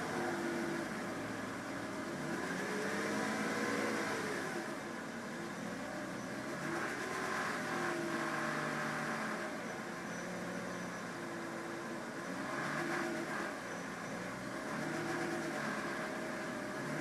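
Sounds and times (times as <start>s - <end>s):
car engine revving: 0.0s - 4.9s, 5.8s - 9.7s, 11.8s - 17.0s.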